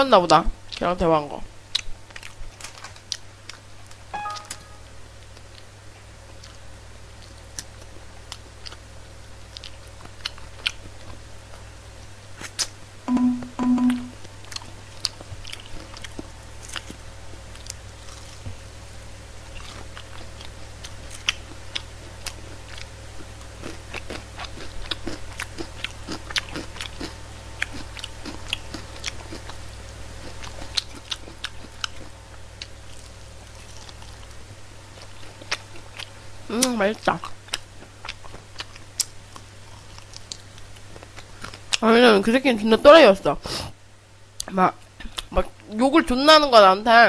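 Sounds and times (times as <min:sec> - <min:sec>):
steady low hum: 0:00.0 - 0:47.0
crunchy chewing of fried chicken: 0:00.6 - 0:04.1, 0:05.1 - 0:12.8, 0:14.2 - 0:41.9.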